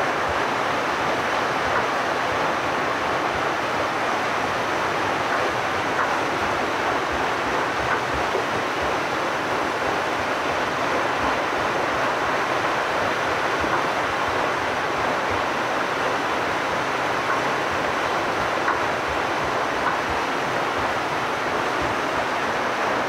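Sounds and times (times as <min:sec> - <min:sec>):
water rushing at a mill wheel: 0:00.0 - 0:23.0.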